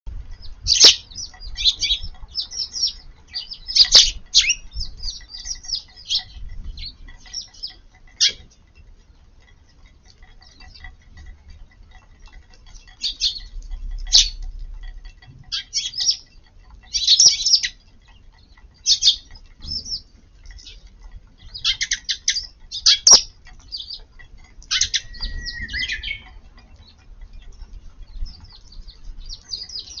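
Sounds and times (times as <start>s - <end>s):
sharp ticks: 0.1s - 30.0s
sparrows chirping: 0.1s - 30.0s.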